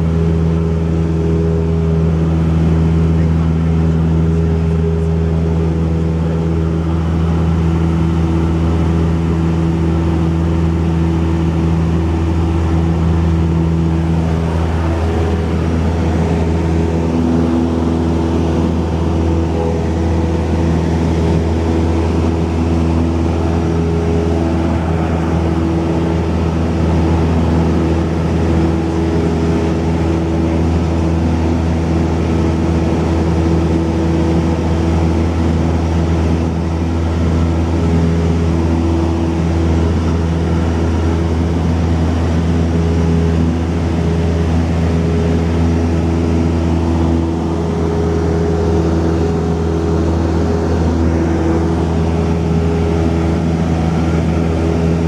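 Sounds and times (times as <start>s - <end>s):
plane engine droning in cabin: 0.0s - 55.0s.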